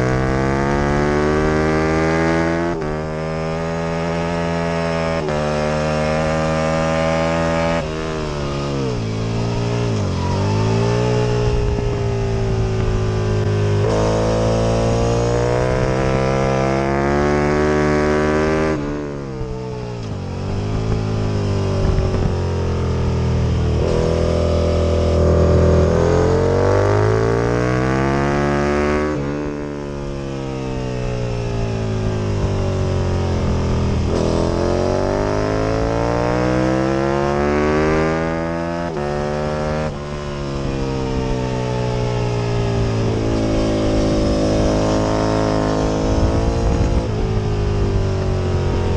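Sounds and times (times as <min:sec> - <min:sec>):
motorcycle engine revving through gears: 0:00.0 - 0:48.9.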